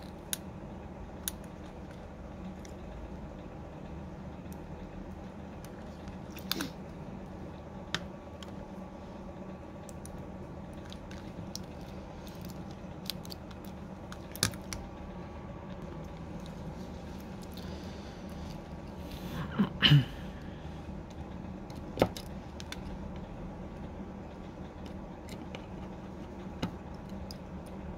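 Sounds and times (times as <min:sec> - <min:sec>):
steady background hum: 0:00.0 - 0:27.9.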